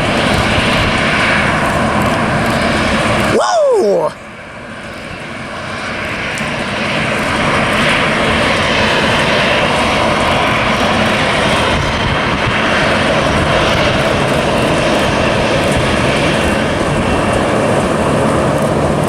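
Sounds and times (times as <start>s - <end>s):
jet engines passing: 0.0s - 19.0s.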